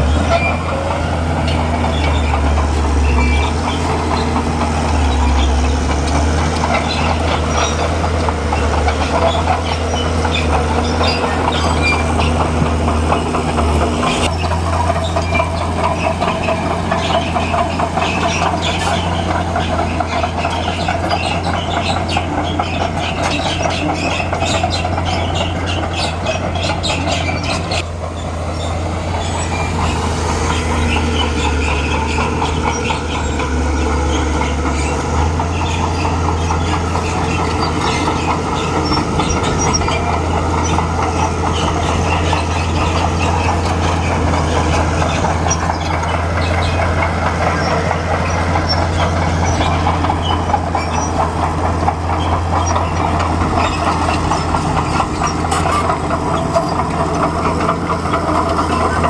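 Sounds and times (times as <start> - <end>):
bulldozer diesel engine running: 0.0 - 59.0
steel tracks clanking: 0.0 - 59.0.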